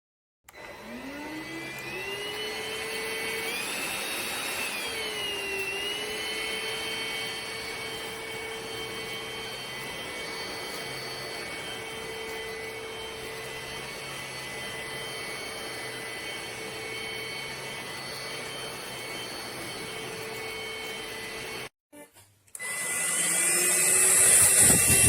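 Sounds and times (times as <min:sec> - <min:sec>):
vacuum motor whining: 0:00.5 - 0:21.7, 0:22.5 - 0:25.0.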